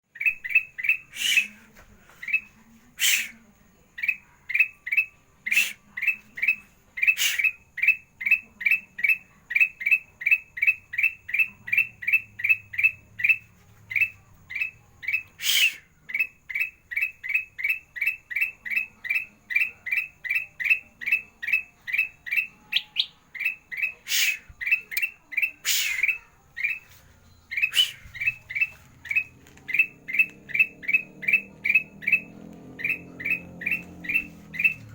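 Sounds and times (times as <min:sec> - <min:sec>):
bulbul singing: 0:00.1 - 0:34.9.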